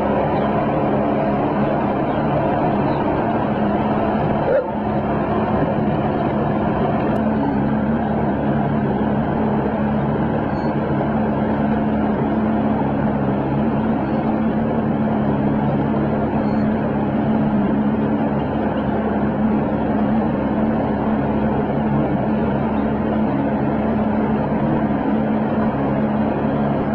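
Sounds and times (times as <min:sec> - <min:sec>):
boat motor running: 0:00.0 - 0:26.9
water noise: 0:00.0 - 0:26.9.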